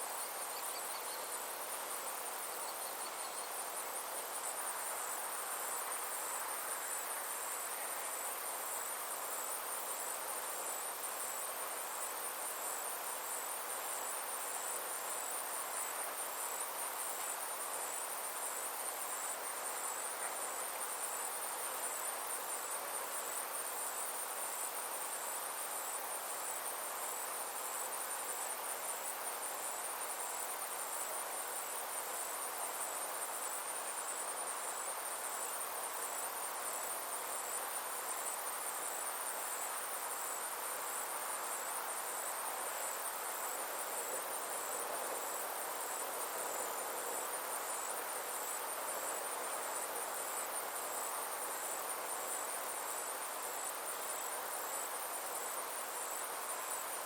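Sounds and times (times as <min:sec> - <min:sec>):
insects trilling: 0:00.0 - 0:57.0
soft background hiss: 0:00.0 - 0:57.0.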